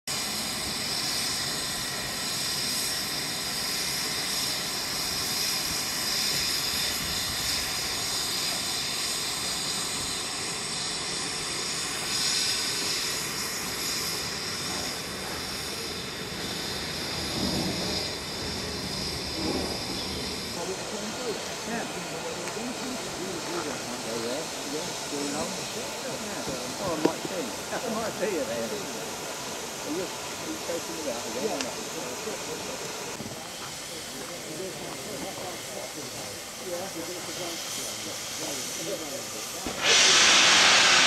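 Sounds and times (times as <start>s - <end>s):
steam hissing from locomotive: 0.1s - 41.0s.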